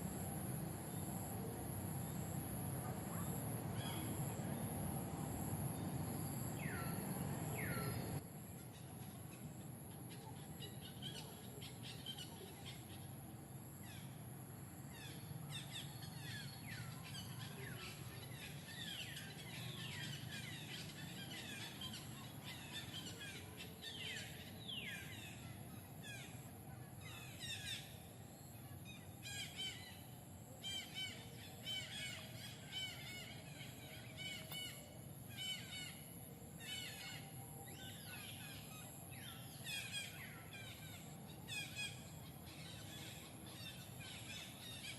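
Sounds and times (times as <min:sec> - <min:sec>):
low background hum: 0:00.0 - 0:44.9.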